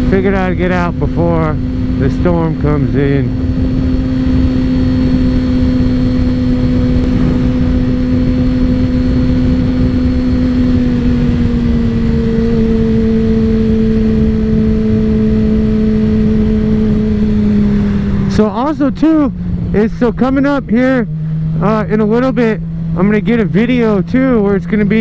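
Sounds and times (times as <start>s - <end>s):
motorcycle engine cruising: 0.0s - 25.0s
wind rush on microphone: 0.0s - 25.0s.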